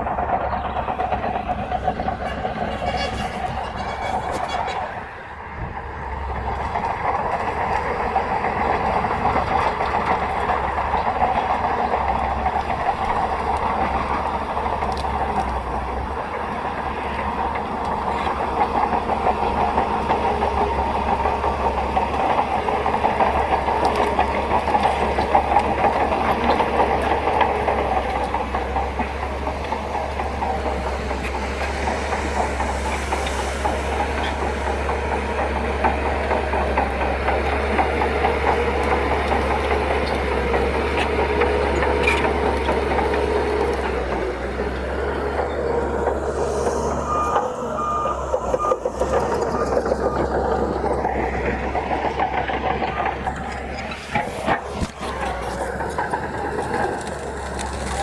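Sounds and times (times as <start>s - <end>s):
bulldozer diesel engine under load: 0.0s - 58.0s
steel tracks clanking: 0.0s - 58.0s.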